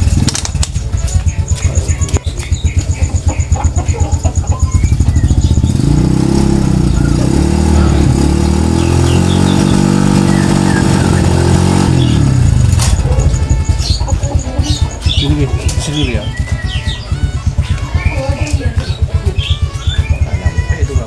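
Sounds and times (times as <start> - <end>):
small engine running: 0.0 - 21.0
faint bird chirps: 0.8 - 21.0.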